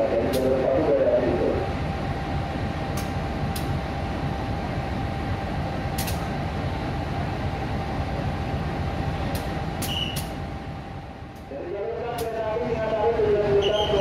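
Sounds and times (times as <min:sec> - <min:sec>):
constant whine: 0:00.0 - 0:14.0
locomotive engine idling: 0:00.0 - 0:14.0.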